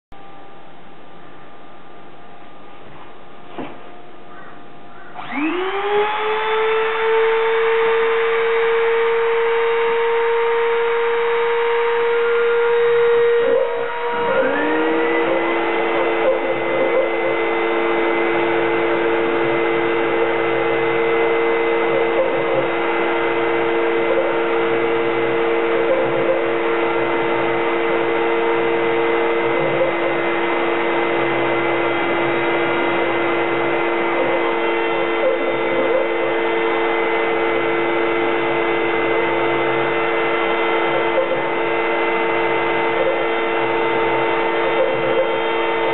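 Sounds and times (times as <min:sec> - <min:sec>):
stepper motor hum: 0:00.1 - 0:45.9
router spindle whining: 0:00.2 - 0:45.9
motor spinning up: 0:05.0 - 0:45.9.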